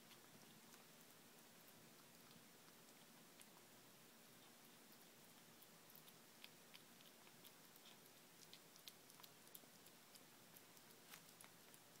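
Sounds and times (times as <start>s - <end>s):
kitten chewing wet food: 0.0s - 12.0s.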